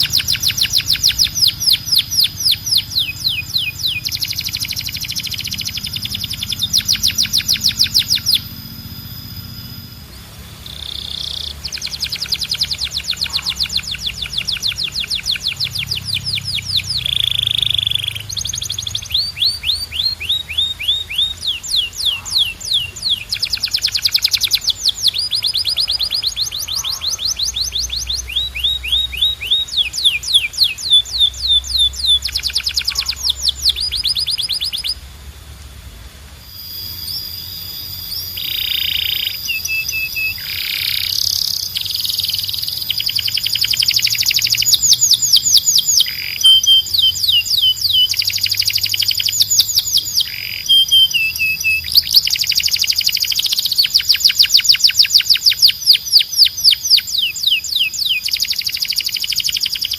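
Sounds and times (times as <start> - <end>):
canary singing trills: 0.0 - 35.4, 36.3 - 59.9.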